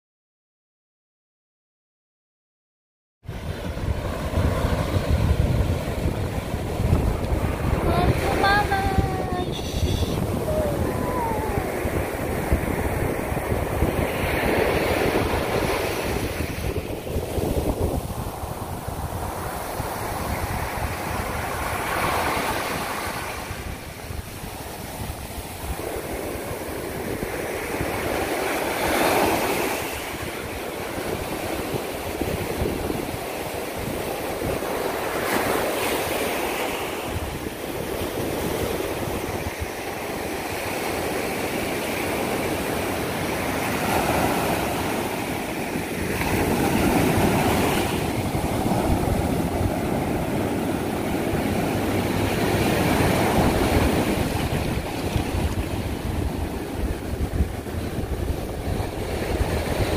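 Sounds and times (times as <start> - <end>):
ocean waves breaking on beach: 3.3 - 59.9.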